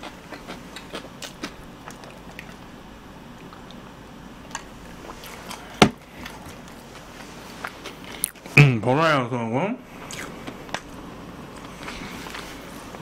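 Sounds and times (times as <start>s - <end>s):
chewing crispy fried chicken: 0.0s - 3.9s, 4.5s - 8.5s, 10.0s - 13.0s.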